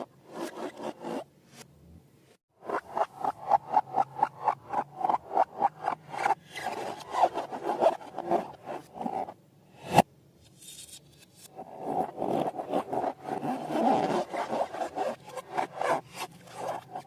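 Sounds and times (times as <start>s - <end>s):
hand rubbing and scraping: 0.0s - 1.8s, 2.6s - 17.0s.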